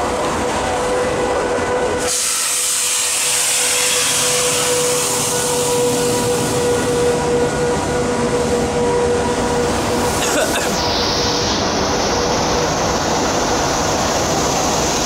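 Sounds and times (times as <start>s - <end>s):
passing train rushing and whirring: 0.0s - 15.0s.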